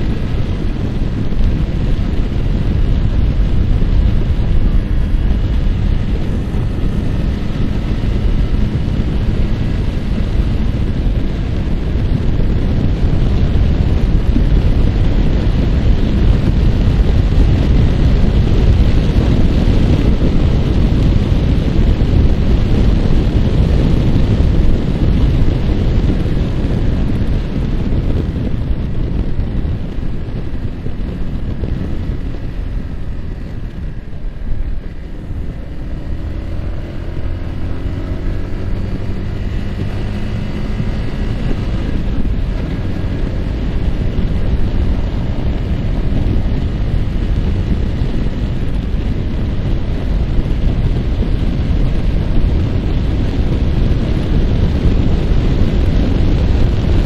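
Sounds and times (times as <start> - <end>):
motorcycle engine at speed: 0.0 - 57.0
wind rush on microphone: 0.0 - 57.0.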